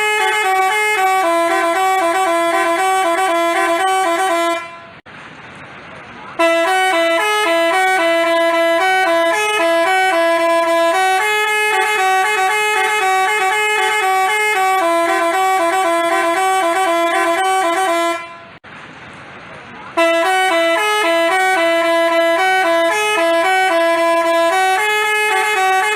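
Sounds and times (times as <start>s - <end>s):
bus horn playing melody: 0.0s - 5.0s, 6.4s - 18.6s, 20.0s - 25.9s.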